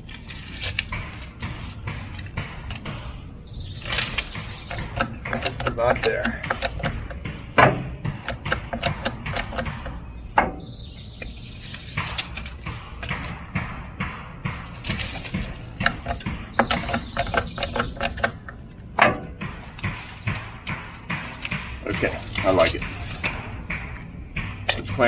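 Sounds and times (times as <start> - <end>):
metallic clanks and scraping: 0.0 - 25.0.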